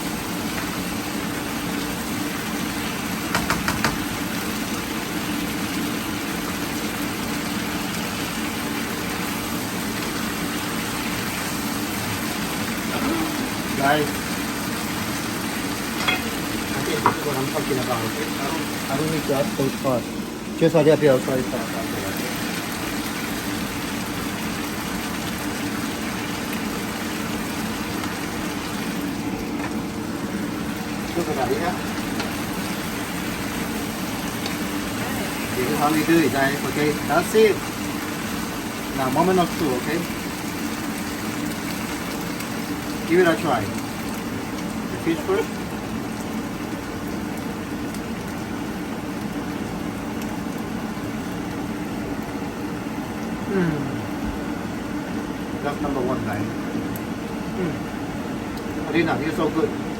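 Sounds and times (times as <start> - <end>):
fish sizzling and bubbling in pan: 0.0 - 59.9.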